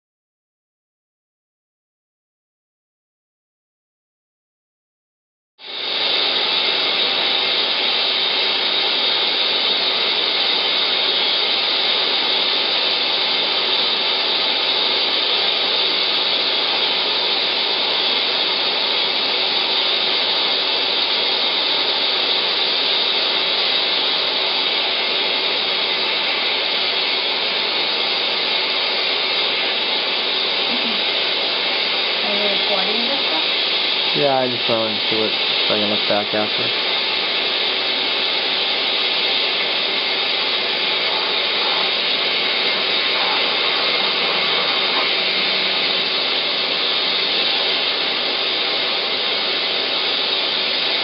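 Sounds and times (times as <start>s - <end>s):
dental equipment whirring: 5.6s - 51.0s.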